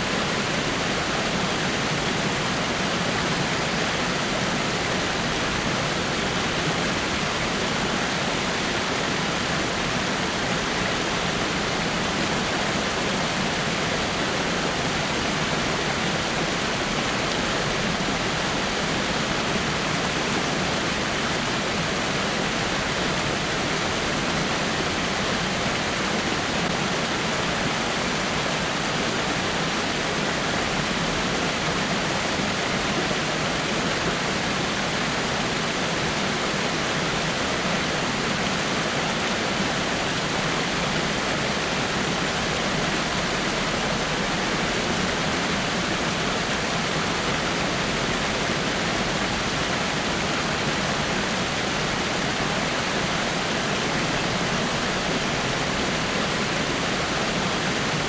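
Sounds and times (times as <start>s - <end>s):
waterfall over rocks: 0.0s - 58.0s.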